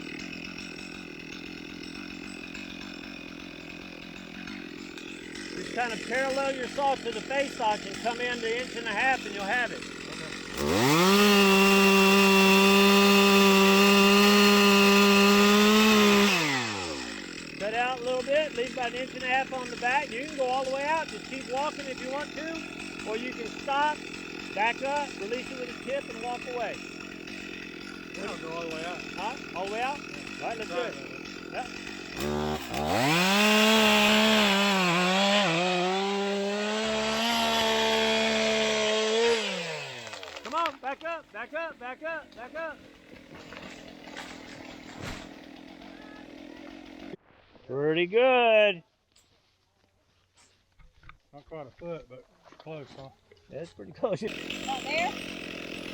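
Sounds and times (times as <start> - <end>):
chainsaw engine revving up: 0.0 - 47.2, 54.3 - 55.9.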